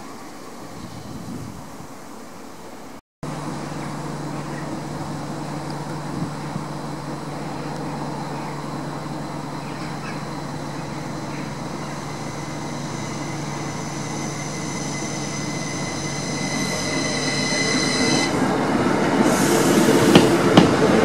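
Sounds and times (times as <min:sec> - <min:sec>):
train rumble: 0:00.0 - 0:21.0
electric train passing: 0:03.3 - 0:21.0.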